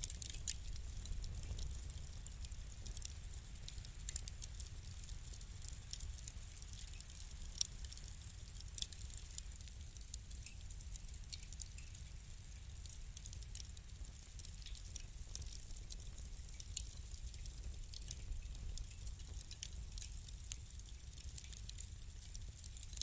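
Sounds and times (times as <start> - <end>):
low rumble of flames: 0.0 - 23.0
wood fire popping and snapping: 0.0 - 23.0.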